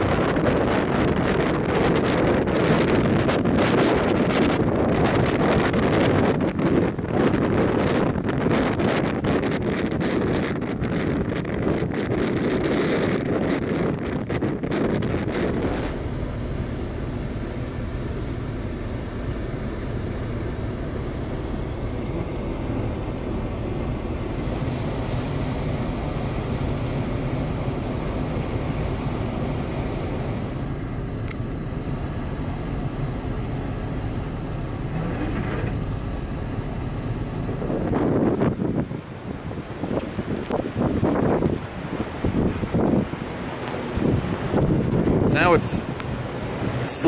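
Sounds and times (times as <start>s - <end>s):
car engine low rumble: 0.0s - 47.0s.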